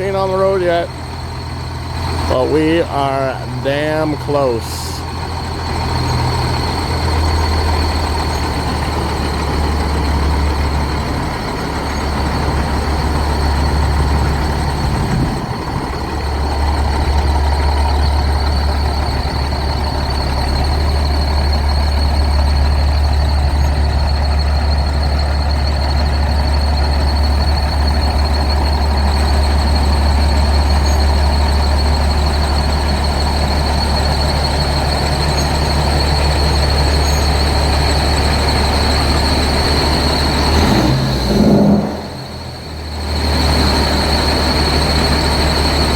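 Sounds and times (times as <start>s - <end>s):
diesel truck engine running: 0.0s - 45.9s
high-pitched squeal: 0.0s - 45.9s.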